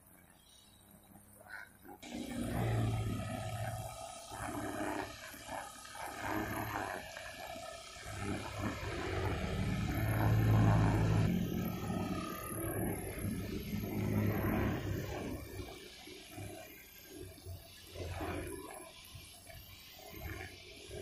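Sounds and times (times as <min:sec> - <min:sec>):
brush cutter engine cutting grass: 0:02.0 - 0:21.0.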